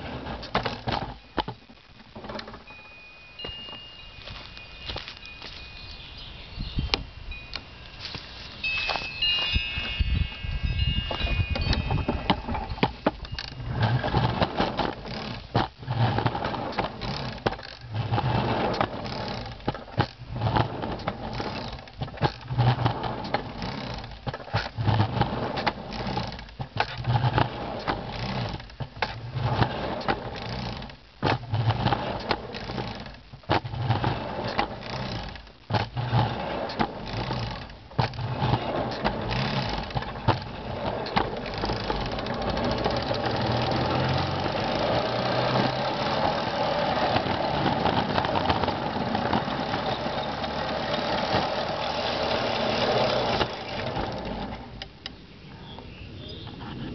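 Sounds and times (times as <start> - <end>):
wheels rumbling on rails: 0.0 - 56.9.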